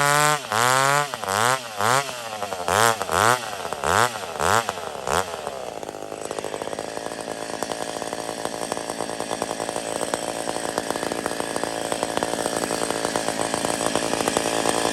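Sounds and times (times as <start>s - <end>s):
chainsaw running at high speed: 0.0s - 14.9s.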